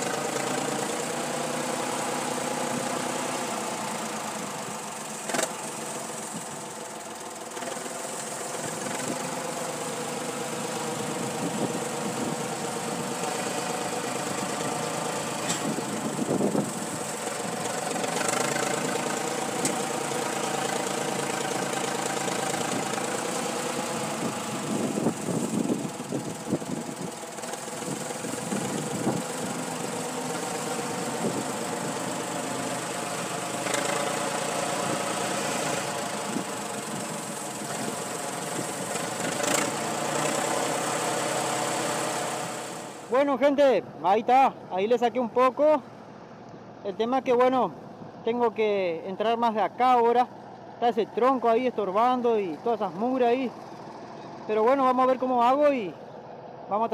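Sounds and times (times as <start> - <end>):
tractor diesel engine: 0.0 - 56.9.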